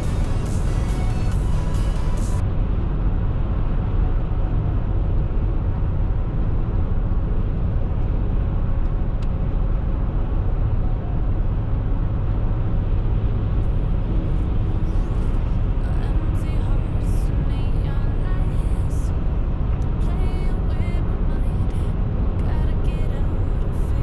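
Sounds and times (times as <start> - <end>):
vehicle road noise rumble: 0.0 - 24.0.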